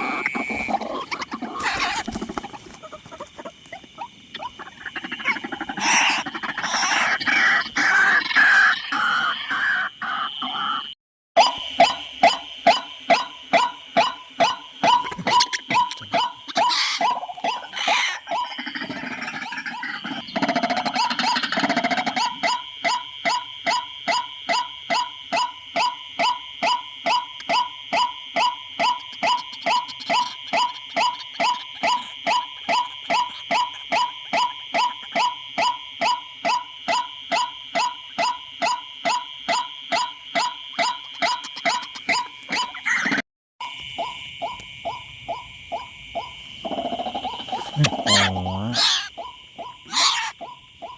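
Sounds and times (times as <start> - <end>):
waterhen calls: 0.0 - 43.2, 44.0 - 50.9.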